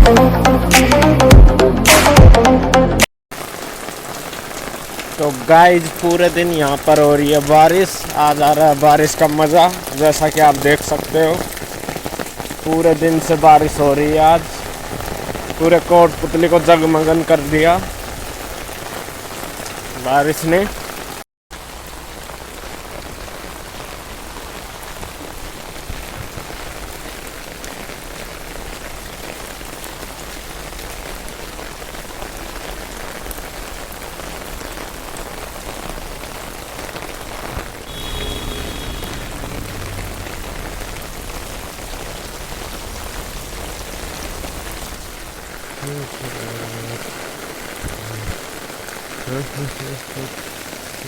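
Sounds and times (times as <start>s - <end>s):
heavy rain falling: 3.3s - 51.0s.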